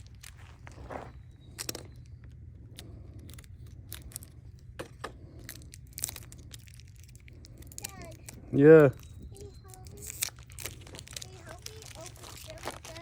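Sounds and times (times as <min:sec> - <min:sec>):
packaged items handled and opened: 0:00.0 - 0:02.2, 0:03.2 - 0:13.0
steady low hum: 0:00.0 - 0:13.0.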